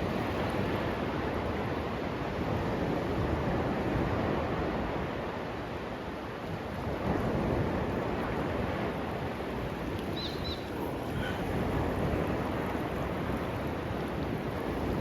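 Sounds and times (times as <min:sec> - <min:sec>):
sea surf washing on beach: 0:00.0 - 0:15.0
wind rumbling on microphone: 0:00.0 - 0:15.0.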